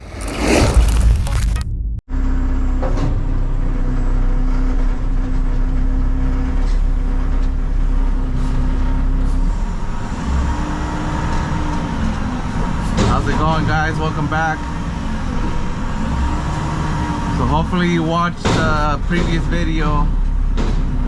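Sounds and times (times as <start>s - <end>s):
diesel truck engine running: 0.8s - 21.0s.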